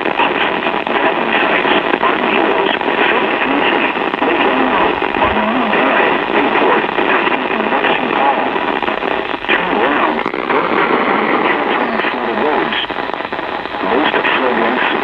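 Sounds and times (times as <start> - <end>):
faint voice: 0.0 - 8.6, 9.4 - 15.0
radio static: 0.0 - 15.0.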